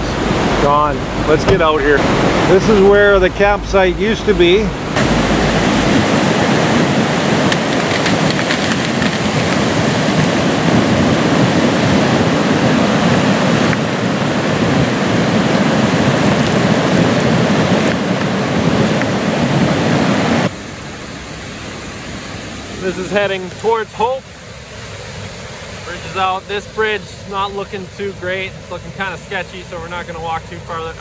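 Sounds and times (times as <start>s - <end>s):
floodwater rushing: 0.0s - 31.0s.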